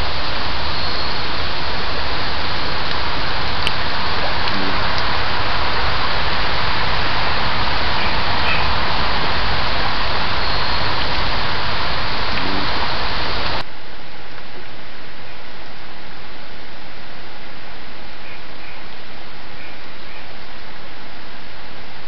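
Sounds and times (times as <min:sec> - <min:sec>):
steady loud hiss: 0:00.0 - 0:22.0.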